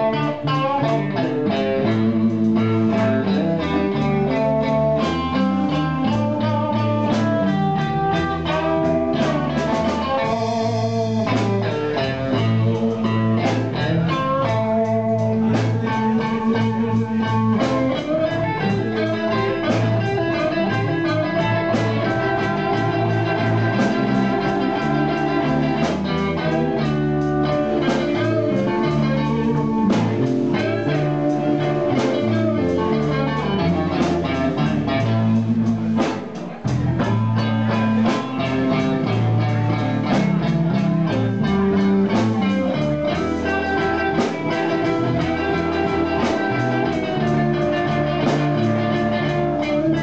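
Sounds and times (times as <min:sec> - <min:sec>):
blues band playing: 0:00.0 - 0:50.0
electric guitar lines: 0:00.0 - 0:50.0.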